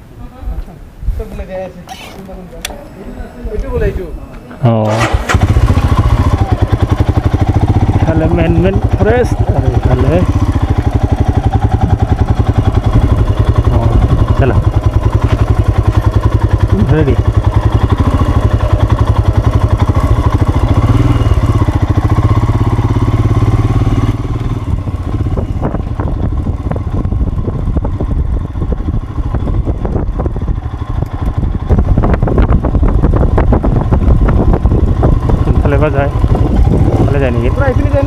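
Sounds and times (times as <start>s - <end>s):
motorcycle engine running: 4.9s - 38.0s.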